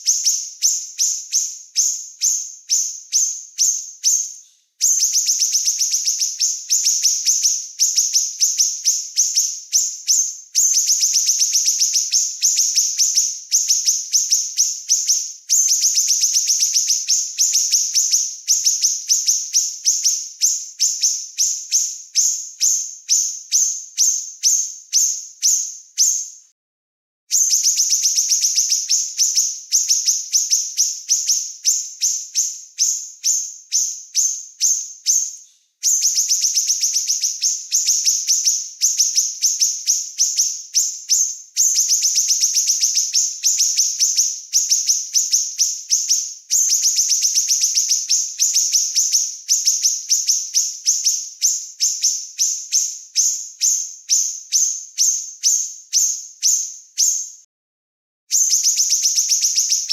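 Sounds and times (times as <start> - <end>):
songbird chirping: 0.0 - 26.5, 27.3 - 57.4, 58.4 - 59.9.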